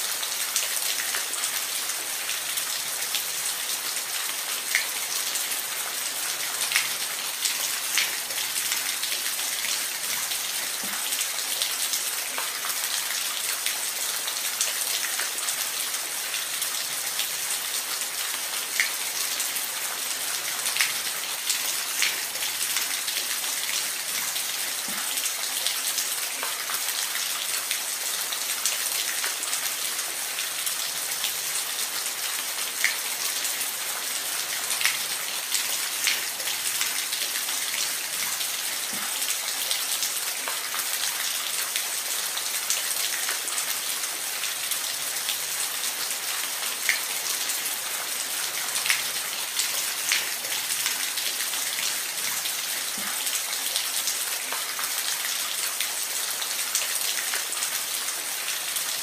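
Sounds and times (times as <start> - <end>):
sharp drips and splashes: 0.0 - 59.0.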